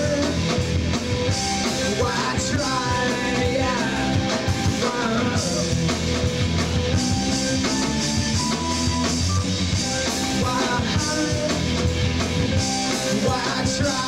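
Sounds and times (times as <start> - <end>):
bass guitar: 0.0 - 14.0
drum kit: 0.0 - 14.0
electric guitars: 0.0 - 14.0.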